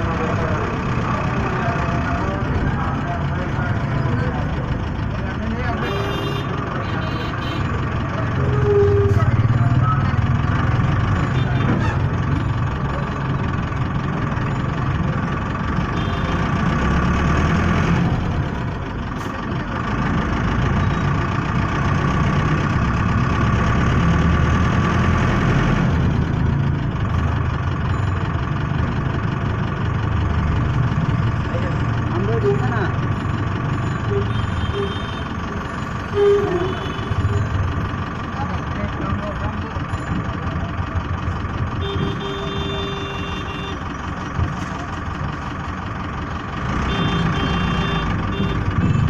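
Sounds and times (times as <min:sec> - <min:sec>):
road noise: 0:00.0 - 0:49.0
vehicle engine rumble: 0:00.0 - 0:49.0.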